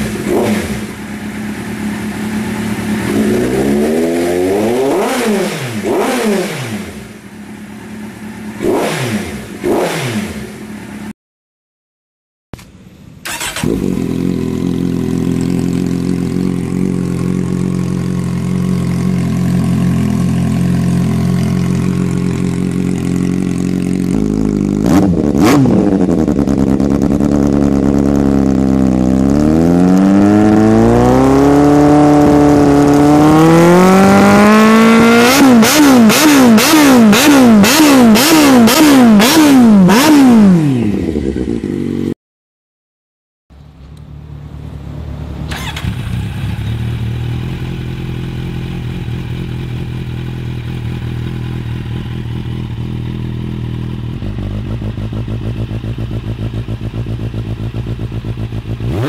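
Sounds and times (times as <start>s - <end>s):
motorcycle engine revving: 0.0s - 11.1s, 12.6s - 42.2s, 43.9s - 59.0s.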